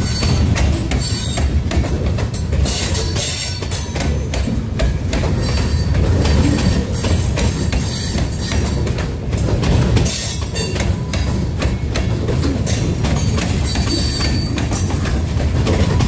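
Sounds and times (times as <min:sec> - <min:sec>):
clicks and clanks from cars: 0:00.0 - 0:16.0
steel wheels rumbling on rail: 0:00.0 - 0:16.0.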